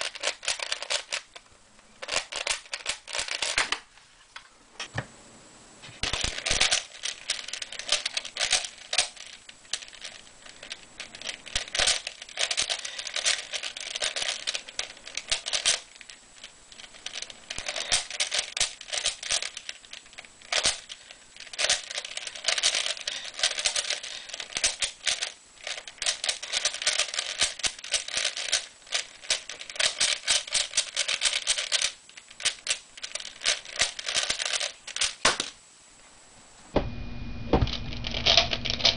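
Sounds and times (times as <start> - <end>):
puzzle cube clicking: 0.0 - 3.8, 6.0 - 35.6.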